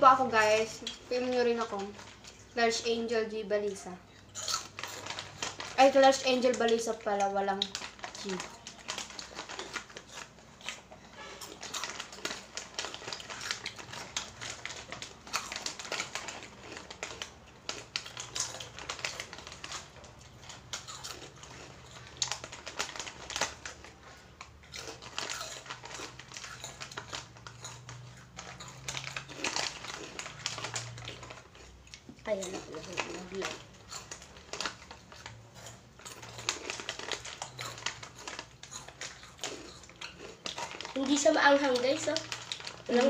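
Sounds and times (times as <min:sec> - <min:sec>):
plastic packet crinkling: 0:00.0 - 0:43.0
crisp snacks being eaten: 0:00.2 - 0:43.0.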